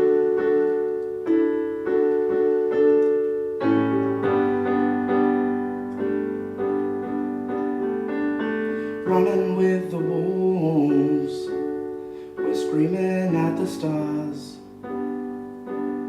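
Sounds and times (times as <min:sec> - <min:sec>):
piano repeated chords: 0:00.0 - 0:16.0.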